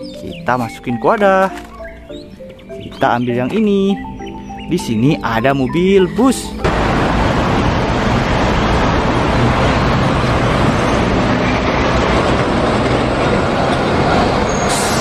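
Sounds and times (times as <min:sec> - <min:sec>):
bus engine humming: 0:00.0 - 0:15.0
street traffic noise: 0:00.0 - 0:15.0.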